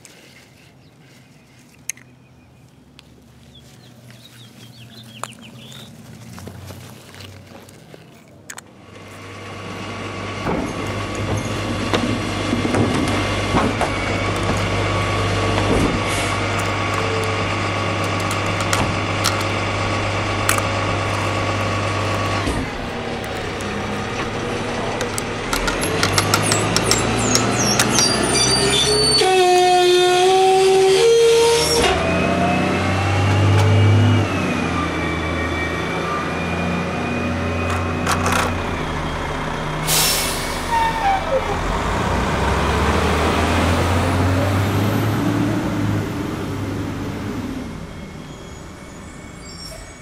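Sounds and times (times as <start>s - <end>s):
heavy truck engine running: 8.7s - 50.0s.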